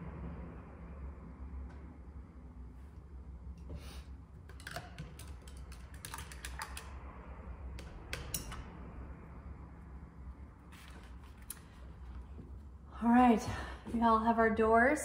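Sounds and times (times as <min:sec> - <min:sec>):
low hum: 0:00.0 - 0:14.5.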